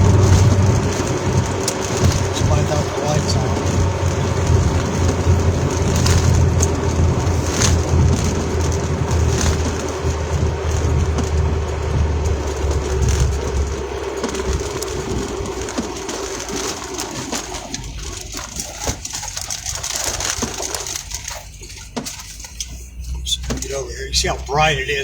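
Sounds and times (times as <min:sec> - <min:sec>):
car road rumble: 0:00.0 - 0:25.0
engine hum: 0:00.0 - 0:25.0.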